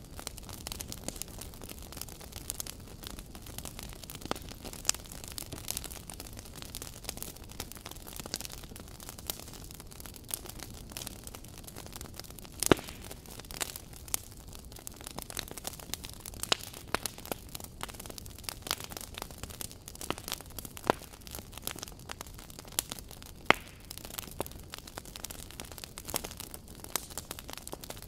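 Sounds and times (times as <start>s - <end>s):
fire crackling and popping: 0.0s - 28.0s
low hiss of fire: 0.0s - 28.0s.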